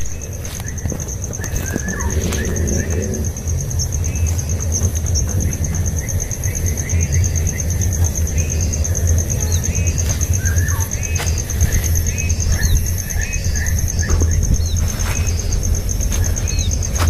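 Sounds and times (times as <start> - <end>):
insect trilling: 0.0 - 17.0
small birds chirping: 0.0 - 17.0
loud low rumble: 1.3 - 17.0.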